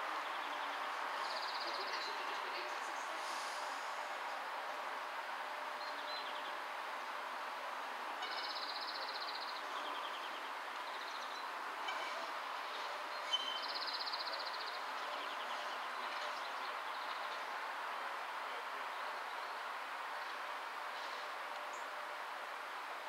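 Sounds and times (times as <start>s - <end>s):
tram running on tracks: 0.0s - 23.0s.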